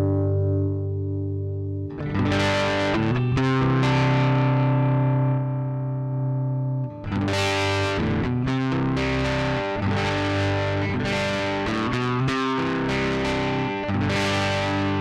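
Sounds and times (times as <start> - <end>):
clean electric guitar strumming: 0.0 - 15.0.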